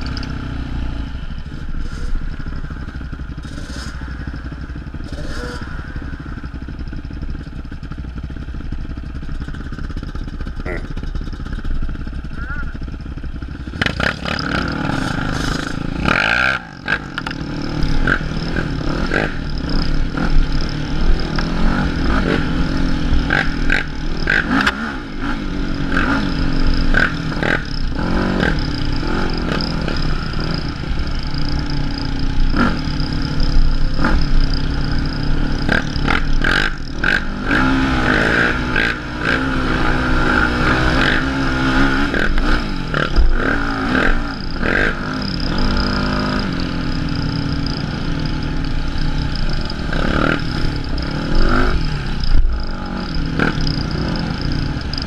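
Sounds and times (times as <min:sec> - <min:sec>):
quad engine revving: 0:00.0 - 0:06.6, 0:09.4 - 0:55.0.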